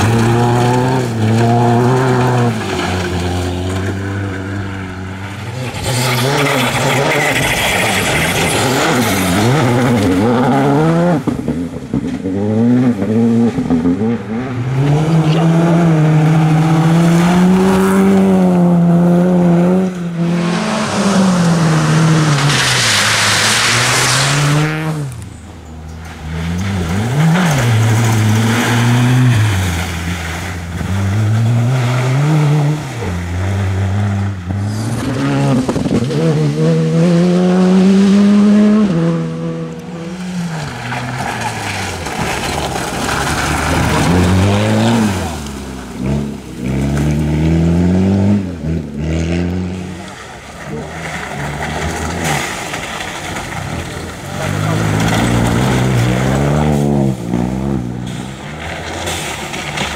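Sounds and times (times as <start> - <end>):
rally car engines revving: 0.0 - 59.9
tyres rushing on gravel and mud: 0.0 - 59.9.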